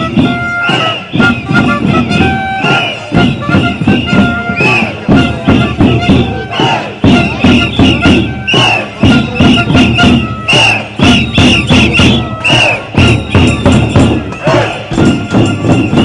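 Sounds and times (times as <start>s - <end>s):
crowd noise: 0.0s - 16.0s
fast rhythmic drumming: 0.0s - 16.0s.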